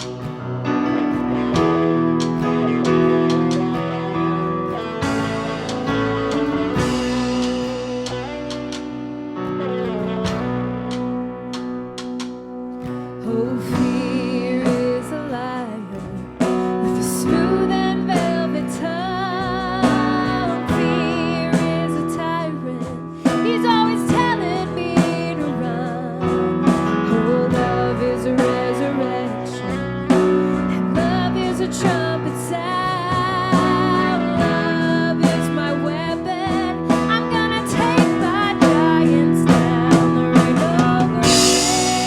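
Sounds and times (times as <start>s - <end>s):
song with vocals guitar and drums: 0.0s - 42.0s.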